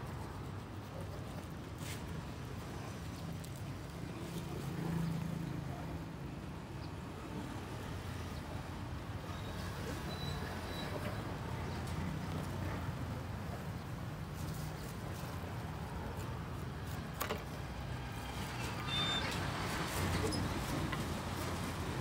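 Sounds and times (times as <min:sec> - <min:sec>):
passing vehicles hum: 0:02.3 - 0:22.0.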